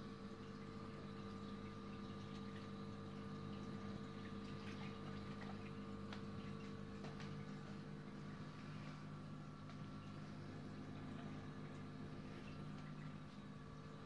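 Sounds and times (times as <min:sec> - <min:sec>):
aquarium equipment humming: 0:00.0 - 0:14.0
water trickling and bubbling: 0:00.0 - 0:14.0.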